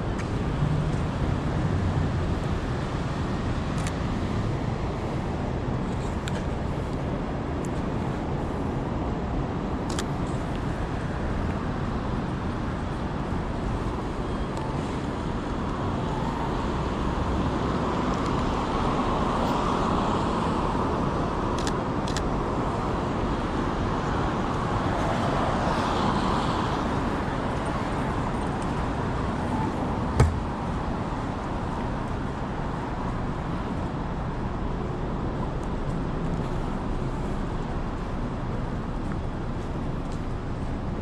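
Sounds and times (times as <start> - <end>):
cars passing: 0.0 - 21.8, 22.4 - 41.0.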